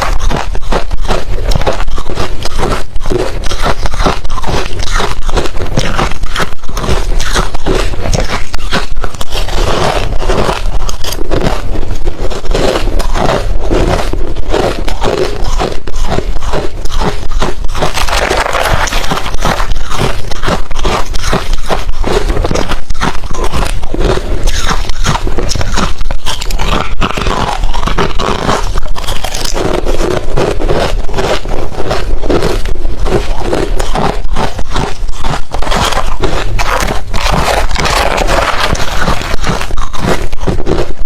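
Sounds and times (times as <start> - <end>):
ice crunching while chewed: 0.0 - 41.0.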